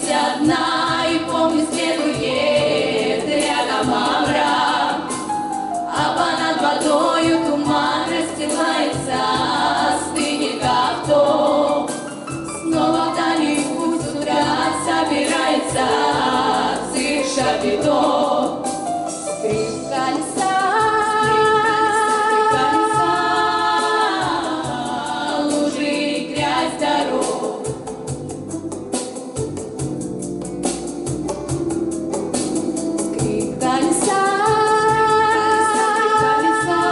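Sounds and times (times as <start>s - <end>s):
vocal quartet singing in harmony: 0.0s - 30.1s, 32.7s - 36.9s.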